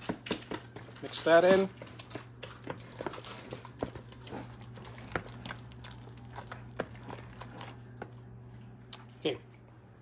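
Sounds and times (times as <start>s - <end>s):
steady low hum: 0.0s - 10.0s
wet squelching of stirred filling: 0.3s - 9.1s.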